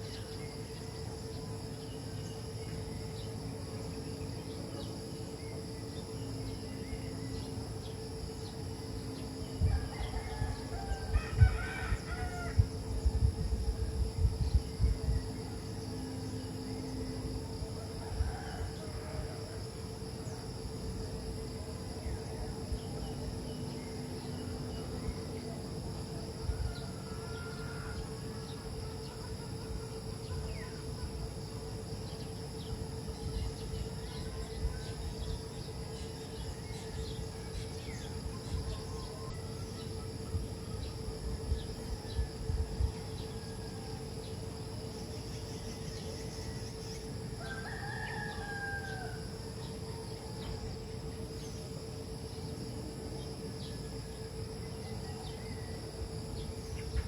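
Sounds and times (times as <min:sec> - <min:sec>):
constant low hum: 0:00.0 - 0:57.0
crickets and insects chirring: 0:00.0 - 0:57.0.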